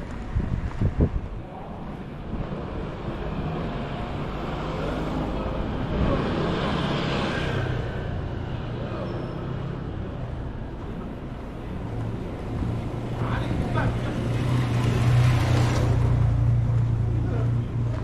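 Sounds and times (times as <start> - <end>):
traffic running steadily: 0.0 - 18.0.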